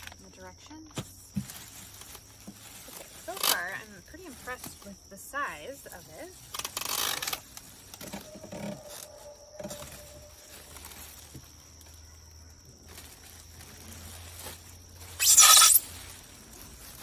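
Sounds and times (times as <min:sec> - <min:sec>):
plastic wrapping rustling: 0:01.1 - 0:17.0.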